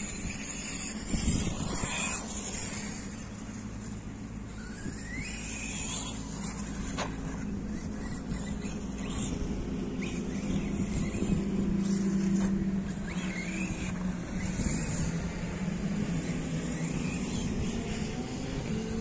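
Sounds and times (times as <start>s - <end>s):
electric toy car motor whining: 0.0s - 19.0s.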